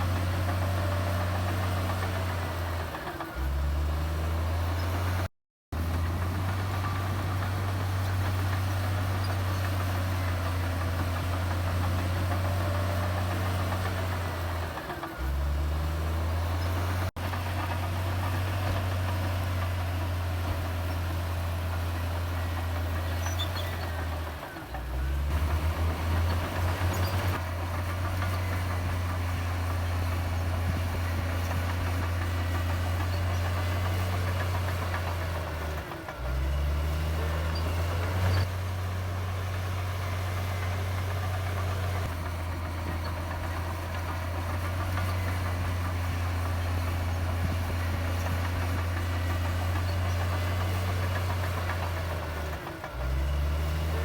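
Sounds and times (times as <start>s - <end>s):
bulldozer diesel engine drone: 0.0s - 54.0s.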